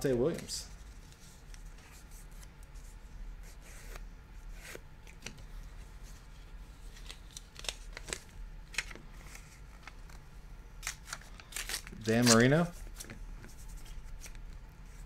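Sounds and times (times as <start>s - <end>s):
cards sliding rustles: 0.0s - 10.2s, 10.8s - 15.0s.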